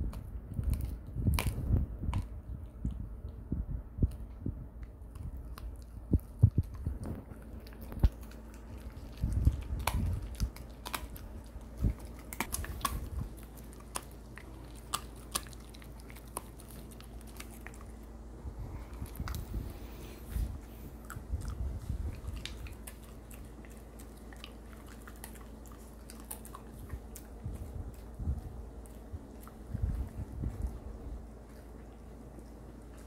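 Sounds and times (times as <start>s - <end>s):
dog chewing a treat: 0.0s - 3.4s, 4.0s - 33.0s.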